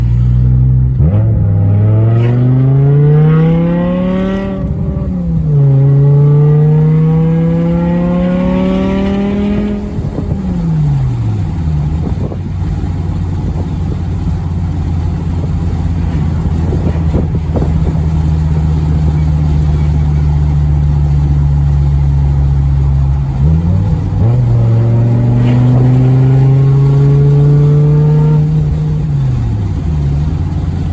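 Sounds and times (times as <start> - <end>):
car engine accelerating hard: 0.0 - 30.9.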